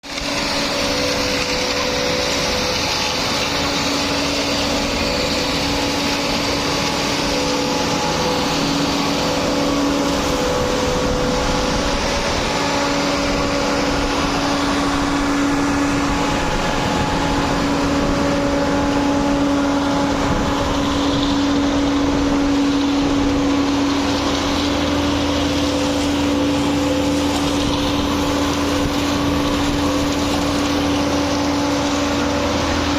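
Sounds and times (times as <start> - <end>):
concrete mixer running: 0.0 - 32.9.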